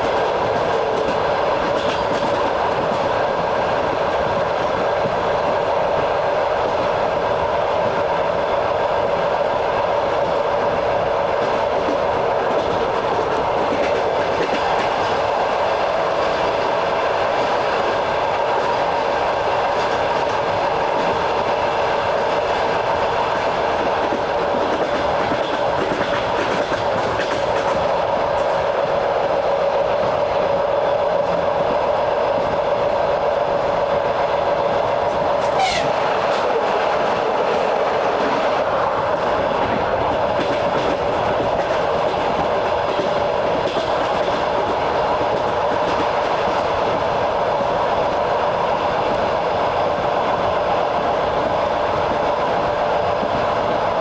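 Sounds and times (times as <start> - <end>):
train rumbling on track: 0.0 - 54.0
wheels clickety-clack: 0.0 - 54.0.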